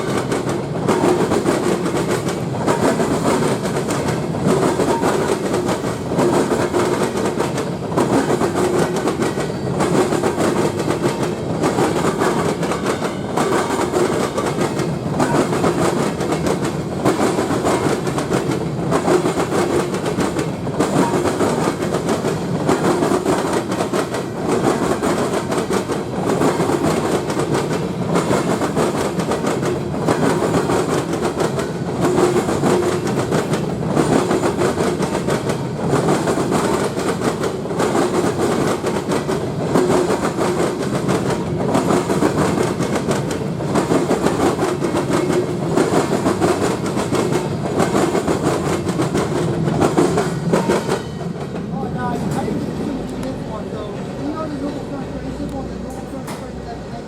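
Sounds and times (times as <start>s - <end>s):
wheels clickety-clack: 0.0s - 54.8s
train wheels rumbling on rails: 0.0s - 57.0s.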